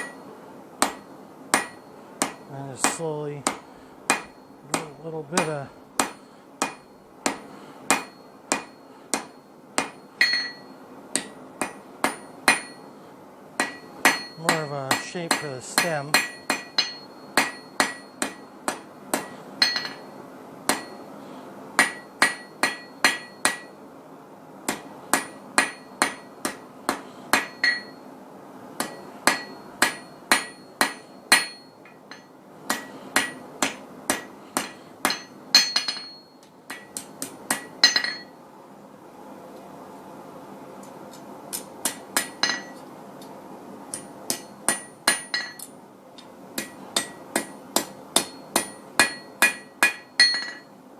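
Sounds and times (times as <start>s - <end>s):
hammer striking hot steel on anvil: 0.0s - 0.2s, 0.8s - 12.9s, 13.6s - 21.1s, 21.8s - 23.8s, 24.7s - 28.0s, 28.8s - 38.4s, 41.1s - 43.3s, 43.9s - 45.7s, 46.6s - 50.7s.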